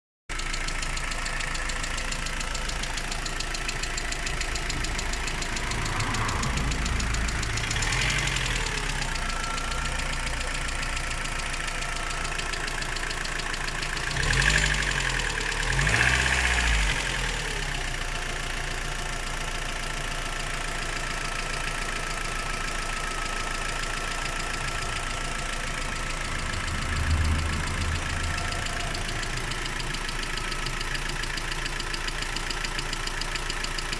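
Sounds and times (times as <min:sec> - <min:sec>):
car engine idling and revving: 0:00.3 - 0:33.9.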